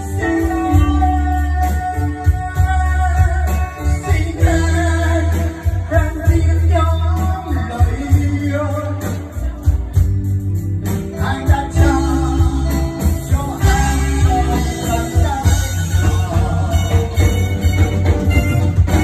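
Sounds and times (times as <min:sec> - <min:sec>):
man singing into microphone: 0:00.0 - 0:10.0, 0:11.1 - 0:17.9
pop music with deep bass: 0:00.0 - 0:19.0.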